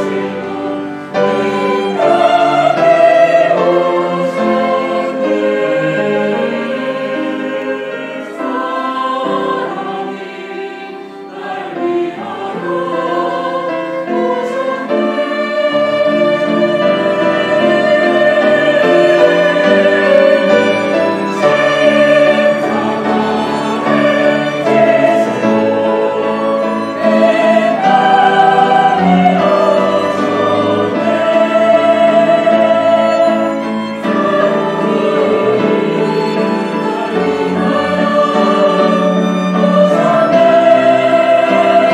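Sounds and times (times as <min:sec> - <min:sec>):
choir singing a hymn: 0:00.0 - 0:41.9
strings woodwinds and piano: 0:00.0 - 0:41.9.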